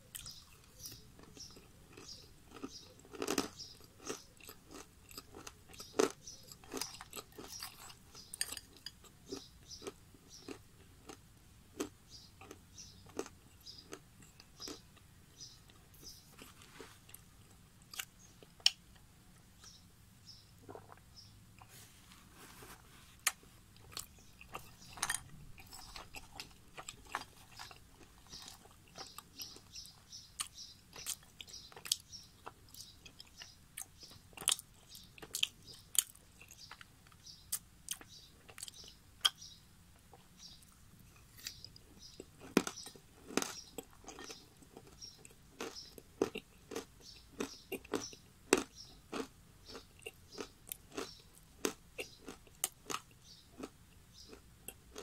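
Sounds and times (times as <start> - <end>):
crunching and chewing: 0.0 - 19.8, 20.6 - 55.0.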